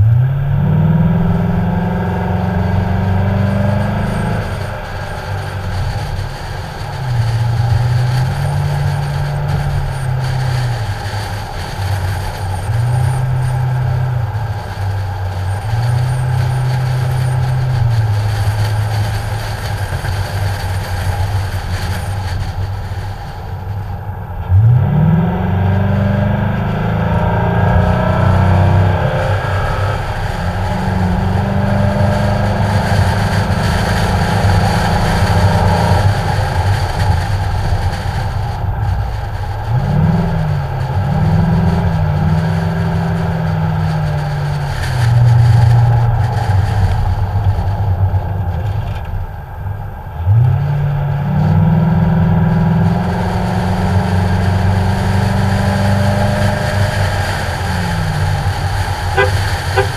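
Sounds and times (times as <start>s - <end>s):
car engine running: 0.0s - 59.9s
wind rushing over camera: 0.0s - 59.9s.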